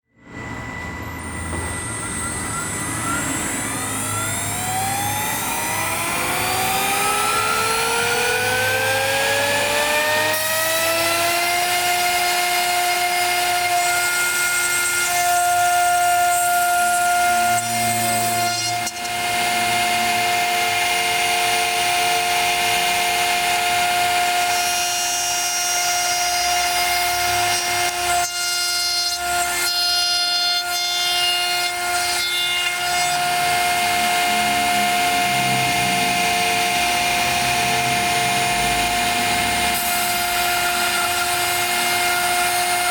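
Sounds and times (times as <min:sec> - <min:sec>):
router spindle whining: 0:00.2 - 0:42.9.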